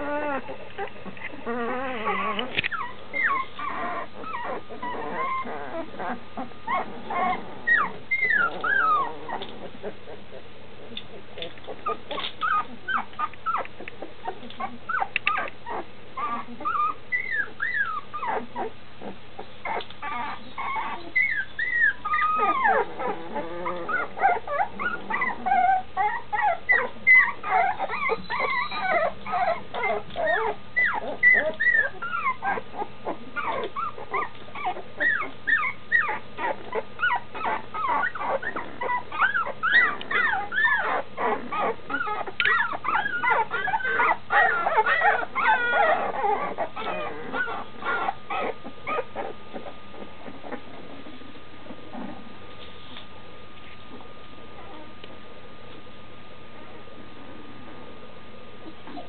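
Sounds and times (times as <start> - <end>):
puppies crying: 0.0 - 51.2.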